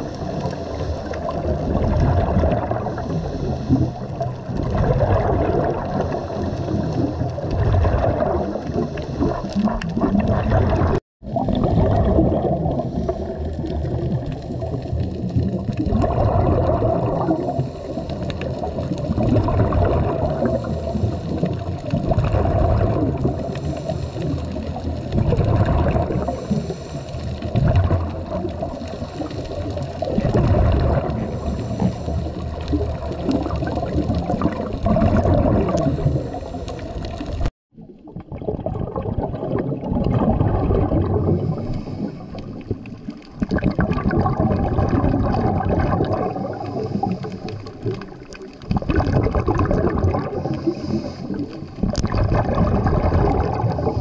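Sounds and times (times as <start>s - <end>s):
underwater regulator bubbling: 0.0s - 54.0s.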